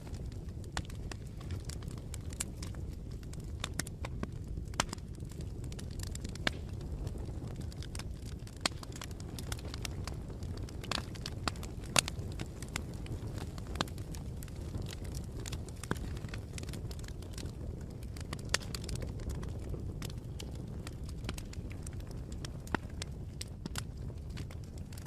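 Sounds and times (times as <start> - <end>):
bonfire rumbling: 0.0 - 25.0
burning wood popping: 0.0 - 25.0.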